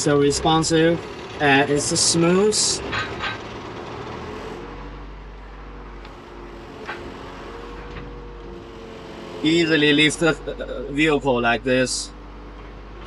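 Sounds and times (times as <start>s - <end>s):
diesel excavator engine running: 0.0s - 13.0s.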